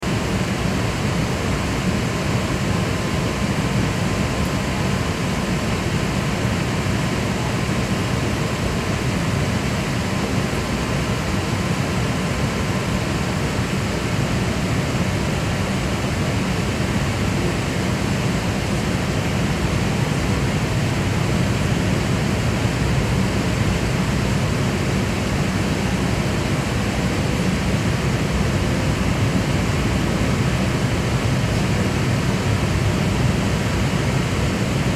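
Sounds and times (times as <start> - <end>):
airflow rush in aircraft cabin: 0.0 - 34.9.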